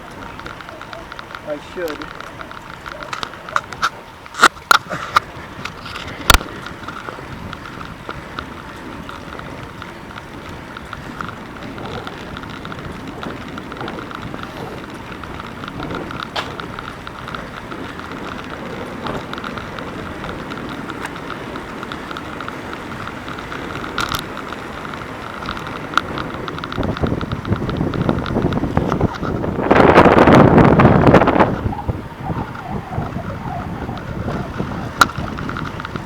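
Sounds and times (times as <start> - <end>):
sharp clicks: 0.0 - 31.7
bicycle rapid ticking: 0.0 - 36.0
bicycle tyre and wind noise: 0.0 - 36.0.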